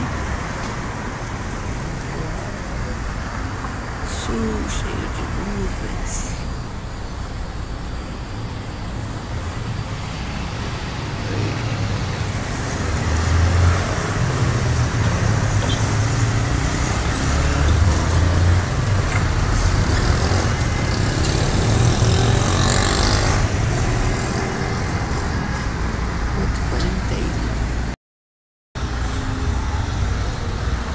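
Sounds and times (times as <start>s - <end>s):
road noise: 0.0s - 28.0s, 28.8s - 30.9s
vehicle engine rumble: 0.0s - 28.0s.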